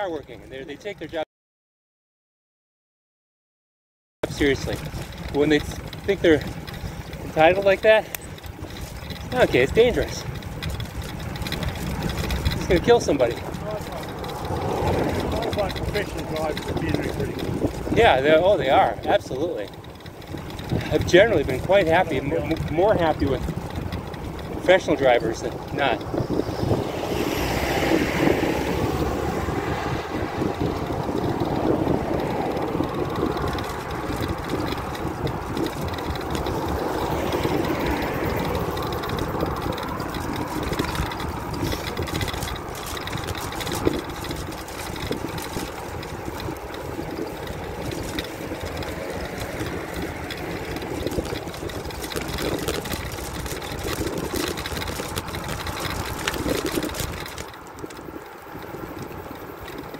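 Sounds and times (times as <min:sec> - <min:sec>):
bicycle road noise: 0:00.0 - 0:01.2, 0:04.2 - 0:59.9
motor vehicles passing: 0:04.2 - 0:59.9
wind noise: 0:04.2 - 0:59.9.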